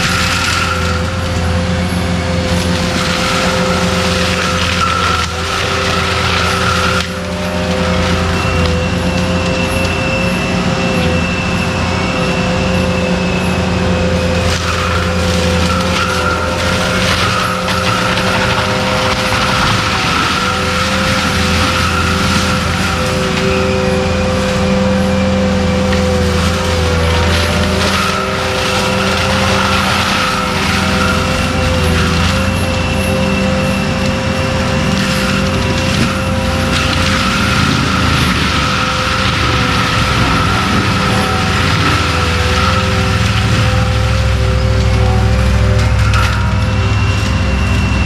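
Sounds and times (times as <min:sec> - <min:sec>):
engine drone: 0:00.0 - 0:48.0
thin high whine: 0:00.0 - 0:48.0.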